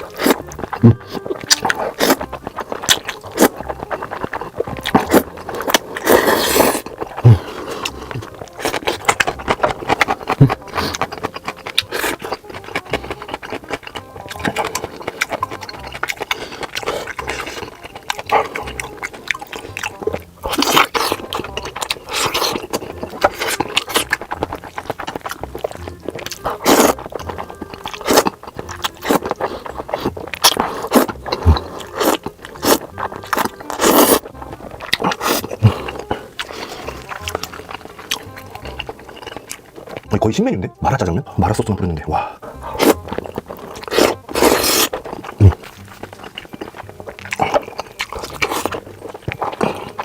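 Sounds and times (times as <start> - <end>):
noodle slurping: 0.0 - 40.1, 42.1 - 50.0
chewing: 0.0 - 50.0.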